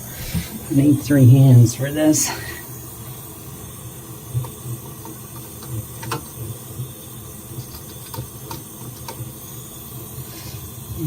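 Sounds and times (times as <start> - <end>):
torch flame rumbling: 0.0 - 11.0.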